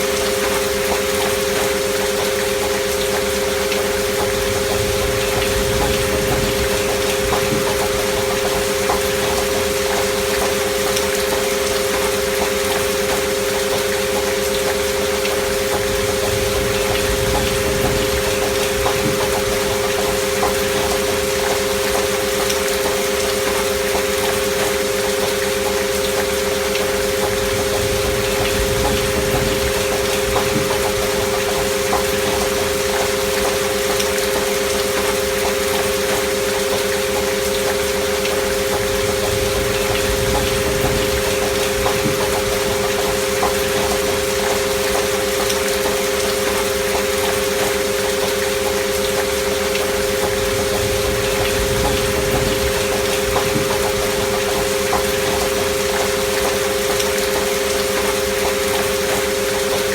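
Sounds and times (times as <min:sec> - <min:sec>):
gentle rain: 0:00.0 - 0:59.9
raindrop ticks: 0:00.0 - 0:59.9.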